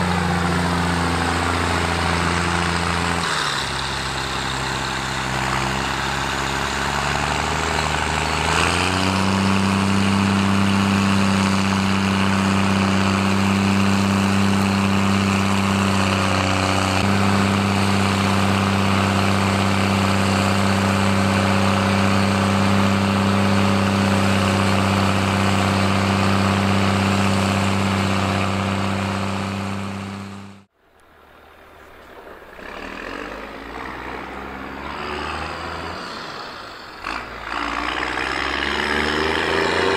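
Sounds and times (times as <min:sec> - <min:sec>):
tractor engine revving: 0:00.0 - 0:30.7, 0:31.6 - 0:39.9
quieter engine sound: 0:00.0 - 0:39.9.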